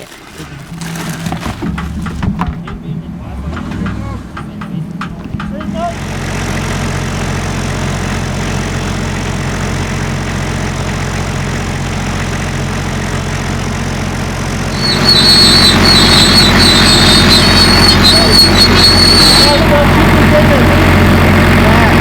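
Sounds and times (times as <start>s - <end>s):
engine running: 0.0s - 22.0s
high whine: 0.2s - 22.0s.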